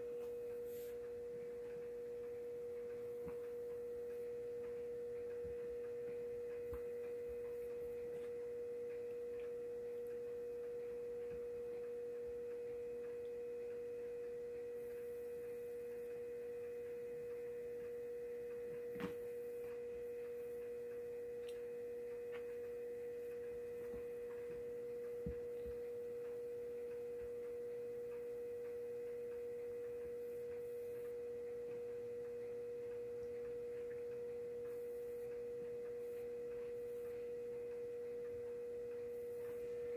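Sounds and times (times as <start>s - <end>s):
steady humming tone: 0.0s - 39.9s.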